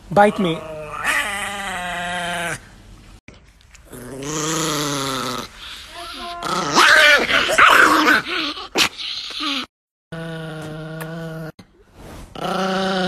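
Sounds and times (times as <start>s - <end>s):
small dogs growling: 0.3s - 2.7s, 3.8s - 11.6s, 12.3s - 13.0s.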